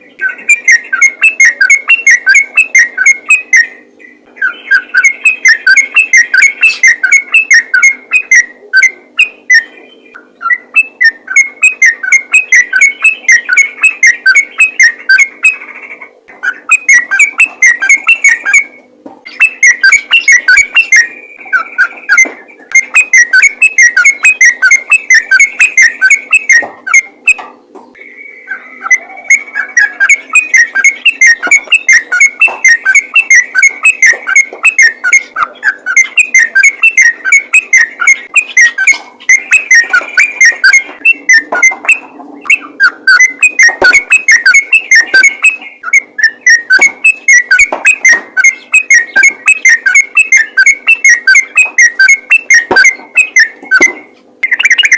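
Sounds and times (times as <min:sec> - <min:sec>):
bird singing rapid whistled notes: 0:00.0 - 0:27.4, 0:28.0 - 0:54.9.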